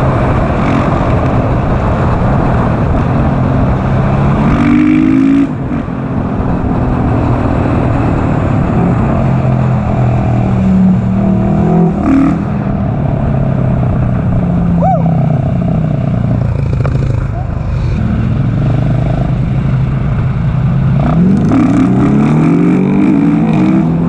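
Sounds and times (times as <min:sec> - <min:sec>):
motorcycle engine revving: 0:00.0 - 0:24.0
wind noise: 0:00.0 - 0:24.0.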